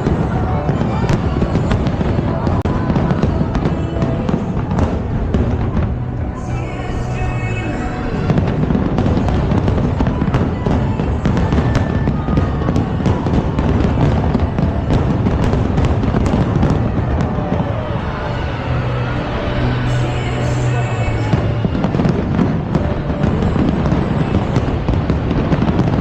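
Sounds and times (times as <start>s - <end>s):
fireworks bangs and crackles: 0.0s - 26.0s
low booms rumbling: 0.0s - 26.0s
music soundtrack: 0.0s - 26.0s.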